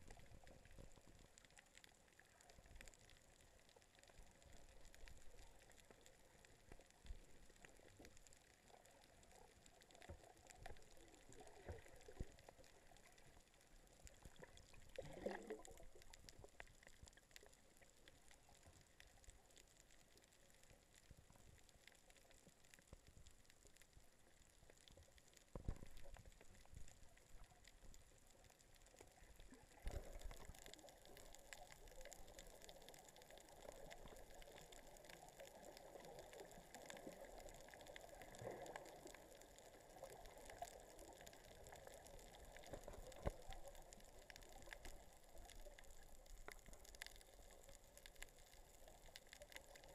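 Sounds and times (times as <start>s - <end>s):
underwater water bubbling: 0.0s - 49.9s.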